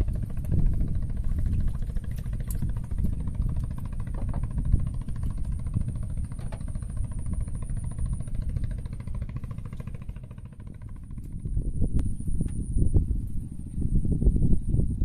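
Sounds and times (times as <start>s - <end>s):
small engine running: 0.0s - 12.6s.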